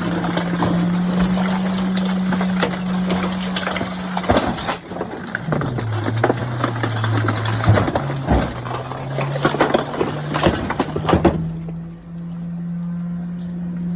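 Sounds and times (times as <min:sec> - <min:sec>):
compactor cracking and crunching: 0:00.0 - 0:12.4
garbage truck low hum: 0:00.0 - 0:13.9.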